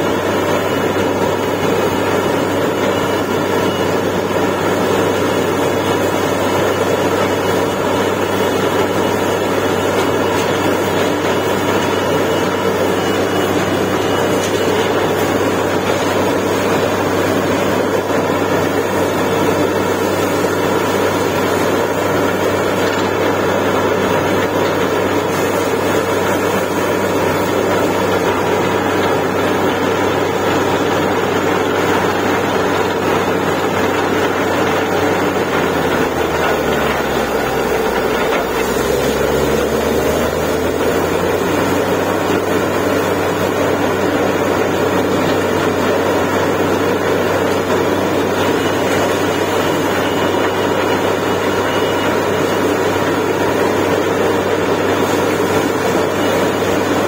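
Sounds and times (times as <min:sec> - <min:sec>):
drilling rig loud hum: 0:00.0 - 0:57.0.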